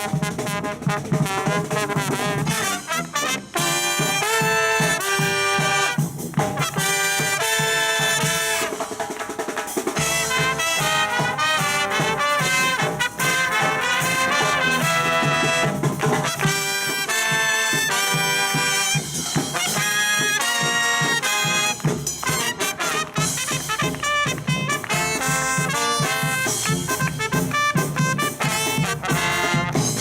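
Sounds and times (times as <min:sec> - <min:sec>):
brass band playing swing: 0:00.0 - 0:30.0.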